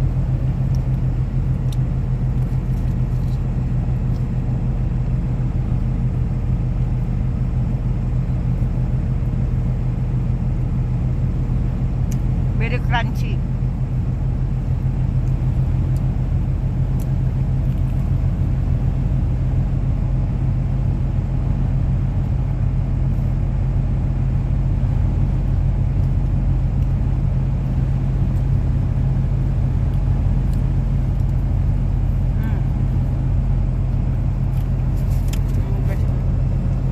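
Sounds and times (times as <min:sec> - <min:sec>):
car engine rumbling: 0:00.0 - 0:36.9.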